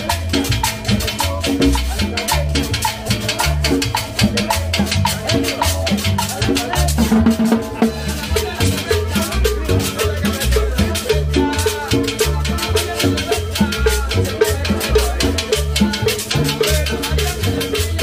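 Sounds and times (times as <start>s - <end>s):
bass line: 0.0s - 18.0s
latin dance band playing: 0.0s - 18.0s
shaker and percussion ticks: 0.0s - 18.0s.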